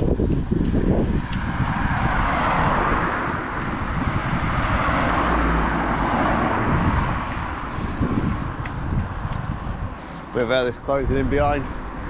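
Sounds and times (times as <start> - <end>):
wind rushing: 0.0 - 11.9
bicycle road noise: 0.0 - 12.0
wind rumble on microphone: 0.0 - 12.0.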